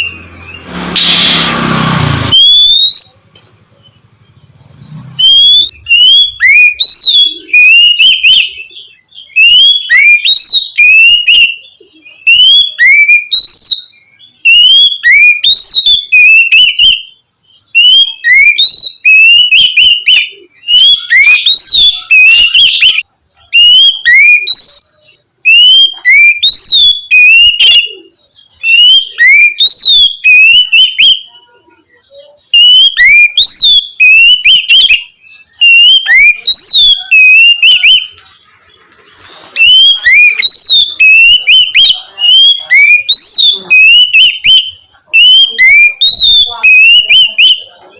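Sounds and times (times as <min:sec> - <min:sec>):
magpie-robin whistling song: 0:00.0 - 0:38.4, 0:39.4 - 0:47.9.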